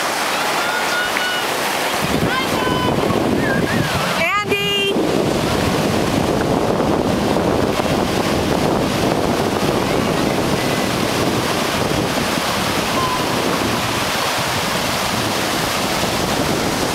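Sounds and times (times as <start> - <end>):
ocean surf breaking: 0.0 - 16.9
wind buffeting microphone: 2.0 - 16.9.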